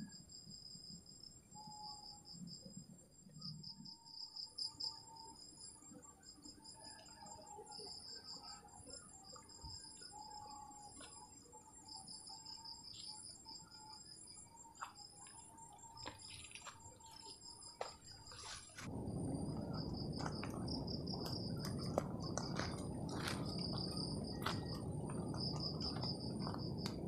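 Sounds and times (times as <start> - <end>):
faint high whine: 0.0 - 27.0
insects chirping: 0.0 - 27.0.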